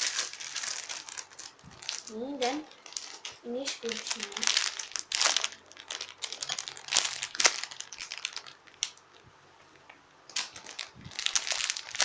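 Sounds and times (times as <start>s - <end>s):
plastic packaging crinkling: 0.0s - 9.2s, 10.3s - 12.0s.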